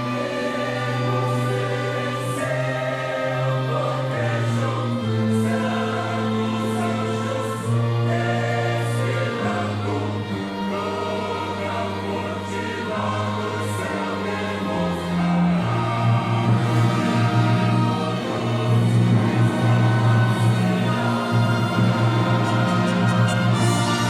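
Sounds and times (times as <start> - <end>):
choir singing a hymn: 0.0 - 24.0
orchestral accompaniment: 0.0 - 24.0.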